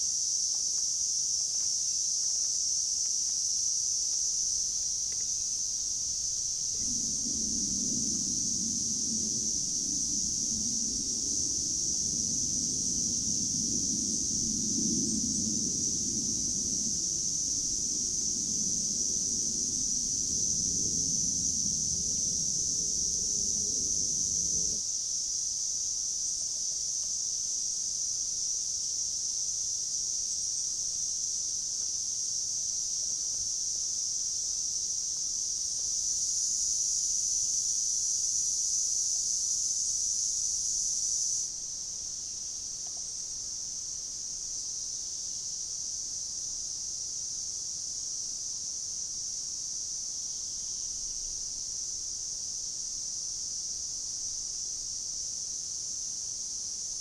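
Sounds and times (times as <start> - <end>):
insect chorus buzzing: 0.0 - 57.0.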